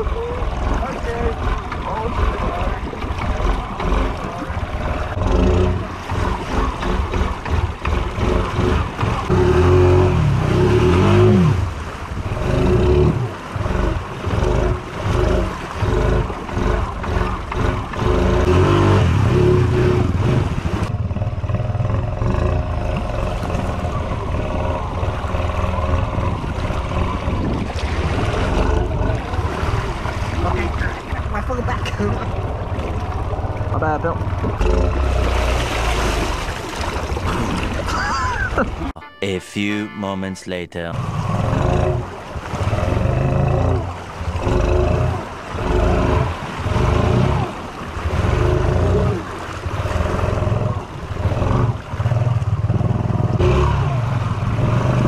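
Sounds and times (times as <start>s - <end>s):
atv engine revving under load: 0.0s - 27.5s, 32.0s - 36.4s, 41.2s - 55.0s
water churning: 0.0s - 39.0s, 40.8s - 55.0s.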